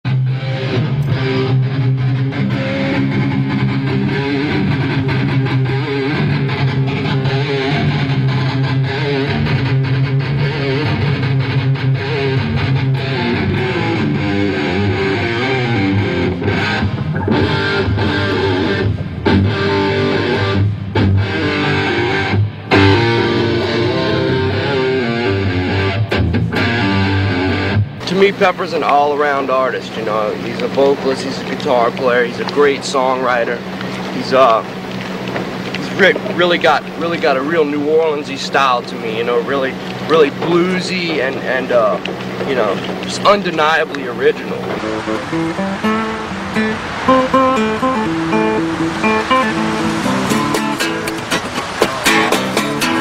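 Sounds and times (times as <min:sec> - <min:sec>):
electric guitar rock riff: 0:00.0 - 0:53.0.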